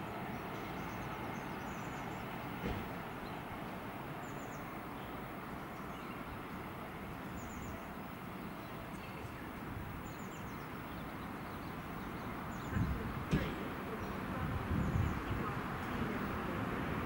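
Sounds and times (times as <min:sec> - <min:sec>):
distant trains rumbling: 0:00.0 - 0:17.0.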